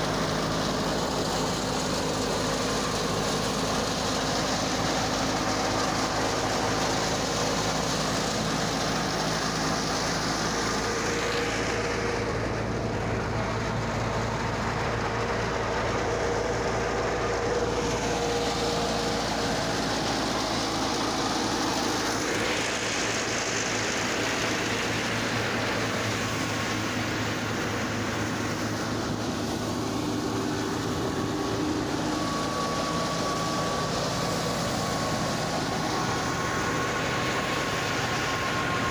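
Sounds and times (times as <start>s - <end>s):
thresher running: 0.0s - 38.9s
tractor diesel engine under load: 0.0s - 38.9s.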